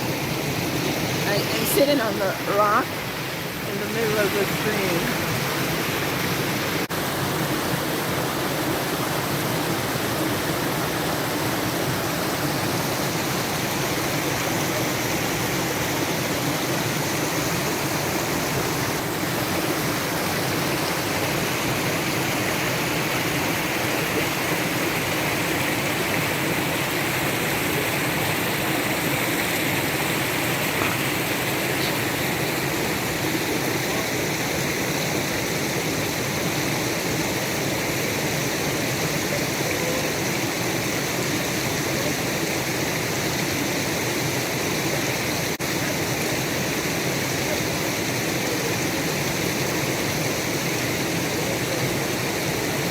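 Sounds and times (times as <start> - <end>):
stream splashing over rocks: 0.0 - 52.9.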